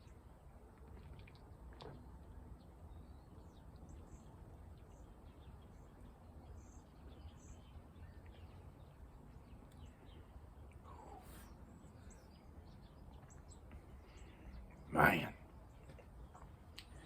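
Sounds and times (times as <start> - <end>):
small birds chirping: 1.0 - 17.0.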